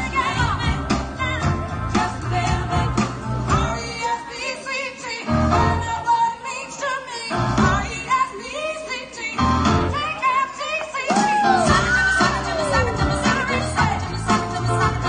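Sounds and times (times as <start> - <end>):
soul song with woman singing: 0.0 - 15.0.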